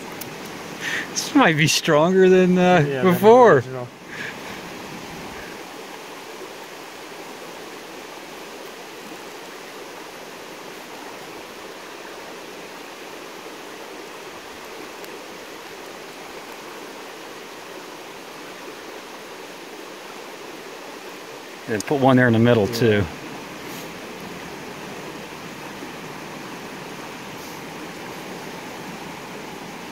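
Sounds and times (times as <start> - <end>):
river water rushing over rocks: 0.0 - 29.9.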